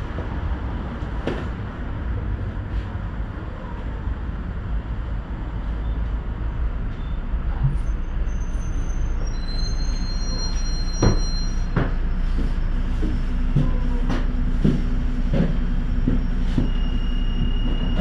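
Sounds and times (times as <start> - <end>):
tram wheels rumbling on rails: 0.0 - 18.0.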